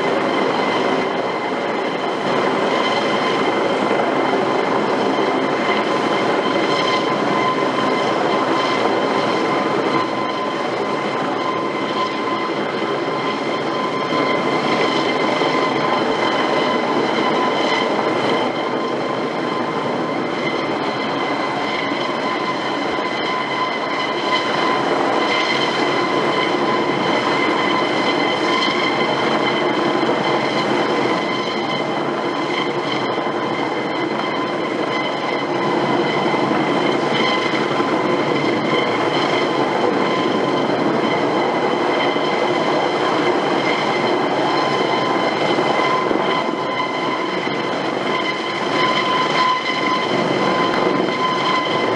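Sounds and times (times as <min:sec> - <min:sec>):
helicopter running: 0:00.0 - 0:51.9
high-pitched turbine whine: 0:00.0 - 0:51.9.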